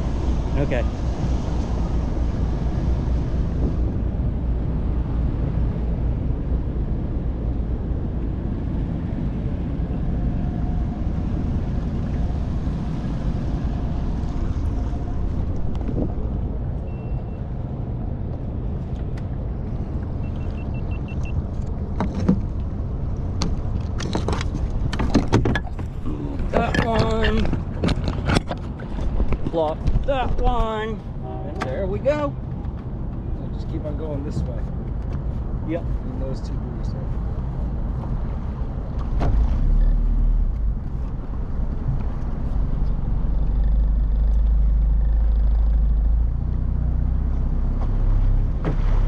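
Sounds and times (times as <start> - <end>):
motorboat engine rumble: 0.0 - 49.0.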